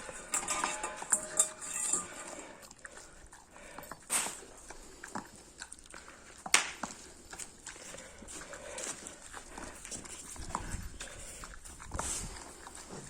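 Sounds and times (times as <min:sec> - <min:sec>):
dog chewing and smacking: 0:02.2 - 0:13.0.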